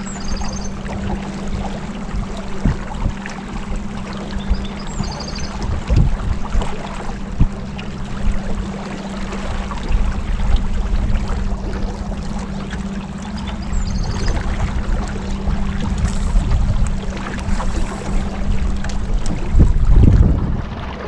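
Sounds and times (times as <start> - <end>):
motorboat engine hum: 0.0 - 21.0
water and wind rushing: 0.0 - 21.0.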